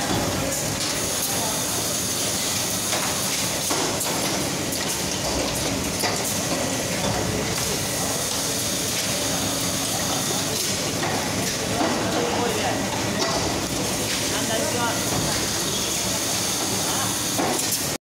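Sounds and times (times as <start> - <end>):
conveyors and machinery running: 0.0 - 18.0.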